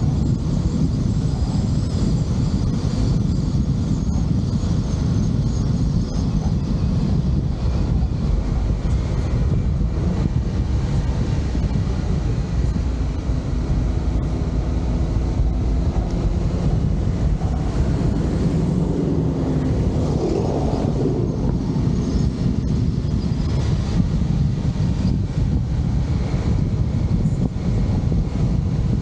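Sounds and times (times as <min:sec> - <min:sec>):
faint engine hum: 0:00.0 - 0:29.0
road noise: 0:00.0 - 0:29.0
wind buffeting microphone: 0:00.0 - 0:29.0.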